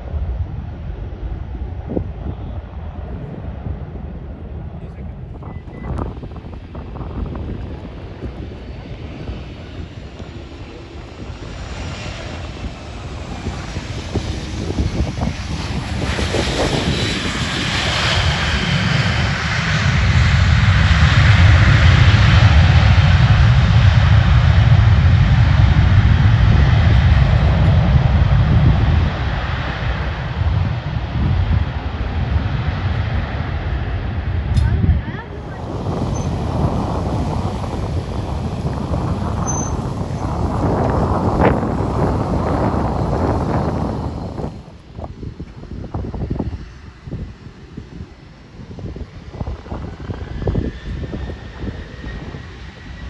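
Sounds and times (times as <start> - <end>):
aircraft engines passing: 0.0 - 53.0.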